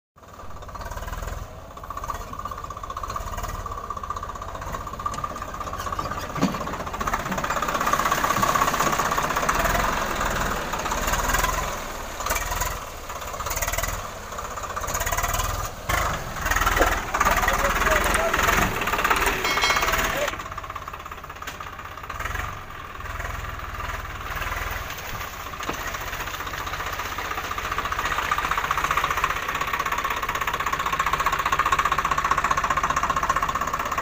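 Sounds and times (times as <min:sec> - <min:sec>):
diesel tractor engine chugging: 0:00.2 - 0:34.0.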